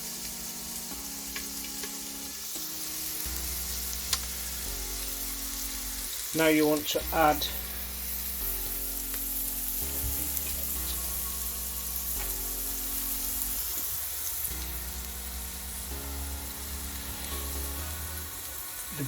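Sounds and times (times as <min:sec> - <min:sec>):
onions sizzling in oil: 0:00.0 - 0:19.0
soft background music chords: 0:00.0 - 0:19.0.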